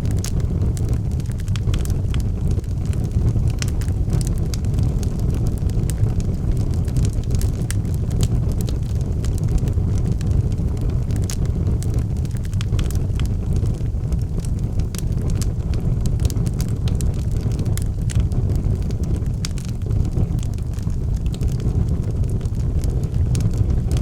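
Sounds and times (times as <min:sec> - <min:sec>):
burning logs crackling and popping: 0:00.0 - 0:24.0
low roar of flames: 0:00.0 - 0:24.0.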